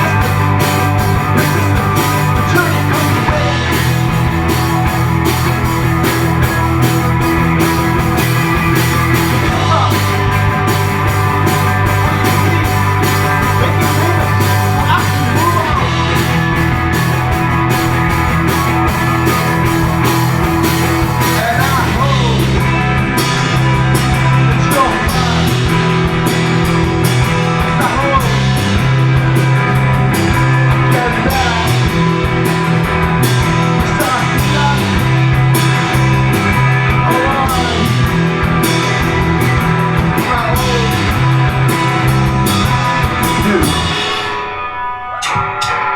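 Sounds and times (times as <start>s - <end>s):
bass guitar: 0.0s - 45.9s
drum kit: 0.0s - 45.9s
electric guitars: 0.0s - 45.9s.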